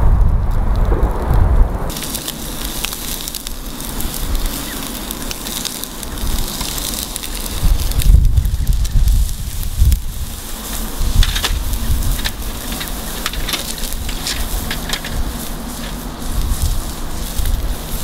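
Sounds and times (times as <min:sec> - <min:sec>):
charcoal fire crackling and sizzling: 0:00.0 - 0:18.0
low rumble: 0:00.0 - 0:18.0.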